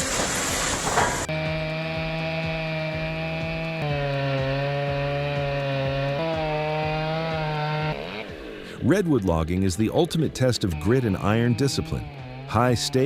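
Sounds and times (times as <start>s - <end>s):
chainsaw running: 0.0s - 9.1s, 9.9s - 13.0s.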